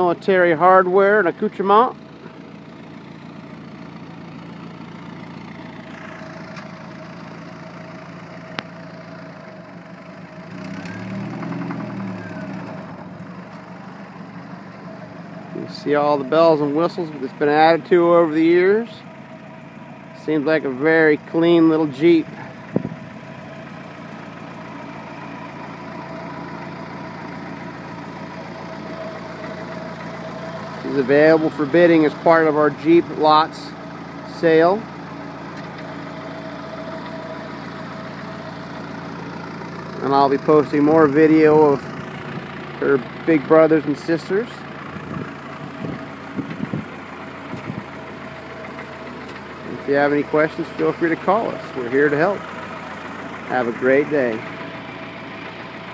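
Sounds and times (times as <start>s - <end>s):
jeep engine running: 0.0s - 55.9s.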